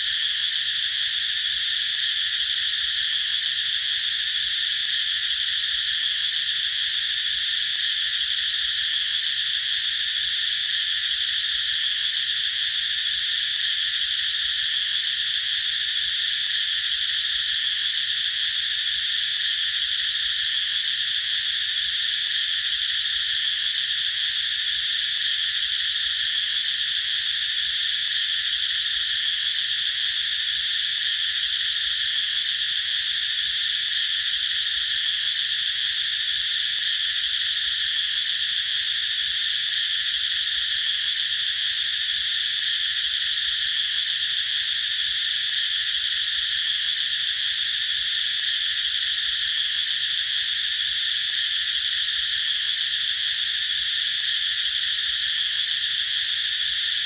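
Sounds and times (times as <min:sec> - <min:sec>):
cicadas singing: 0:00.0 - 0:57.0.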